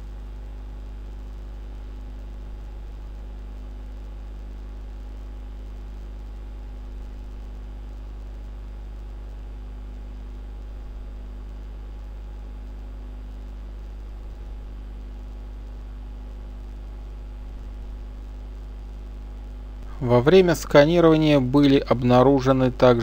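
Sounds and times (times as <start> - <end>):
faint hiss: 0.0 - 23.0
steady low hum: 0.0 - 23.0.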